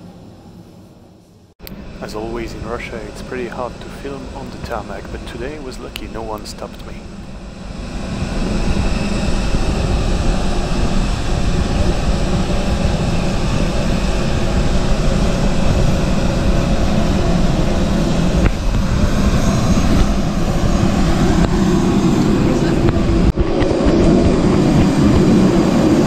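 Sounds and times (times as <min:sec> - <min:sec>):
aircraft power unit rushing: 0:00.0 - 0:26.0.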